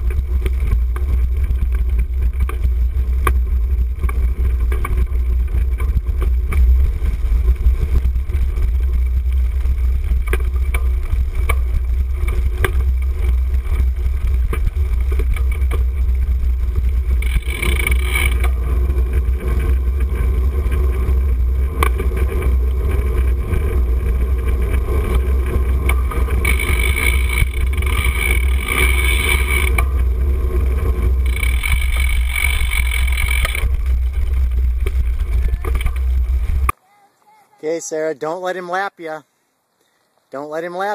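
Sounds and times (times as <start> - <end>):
bike buzzing rattle: 0.0 - 36.7
wind buffeting: 0.0 - 36.7
bike riding low rumble: 0.0 - 36.8.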